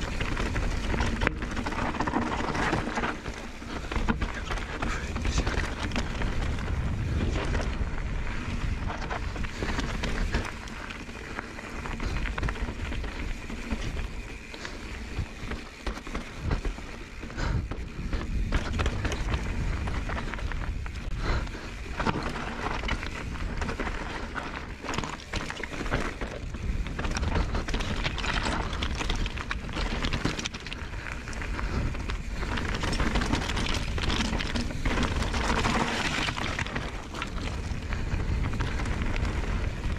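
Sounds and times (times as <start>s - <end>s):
bike rattling over rocks: 0.0s - 39.9s
bike tyres crunching over slate: 0.0s - 39.9s.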